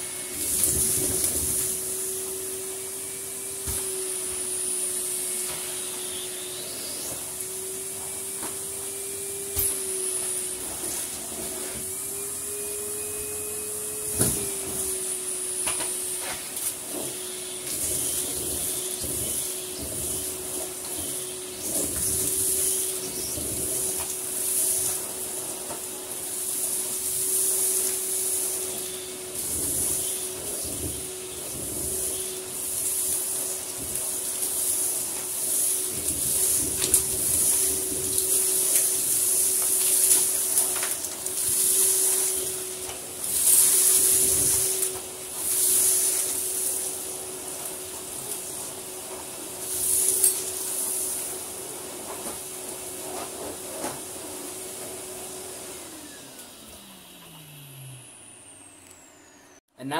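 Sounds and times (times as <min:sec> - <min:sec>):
vacuum cleaner running: 0:00.0 - 0:59.9
vacuum sucking up sand: 0:00.0 - 0:59.9.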